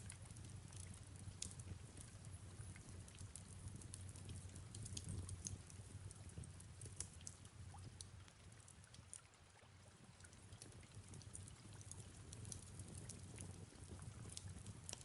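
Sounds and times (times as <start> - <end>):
faint fireplace crackling: 0.0 - 15.0.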